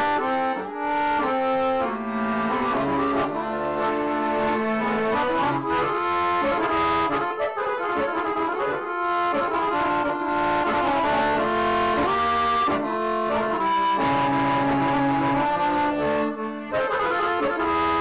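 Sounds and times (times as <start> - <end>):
instrumental folk melody: 0.0 - 18.0.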